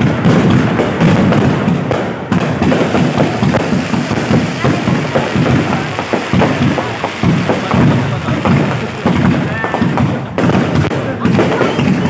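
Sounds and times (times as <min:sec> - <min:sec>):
fireworks cracking and thudding: 0:00.0 - 0:12.0.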